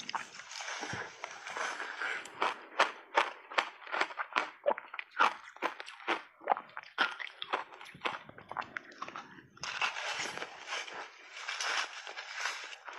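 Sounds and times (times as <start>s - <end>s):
ice being chewed: 0.0s - 12.9s.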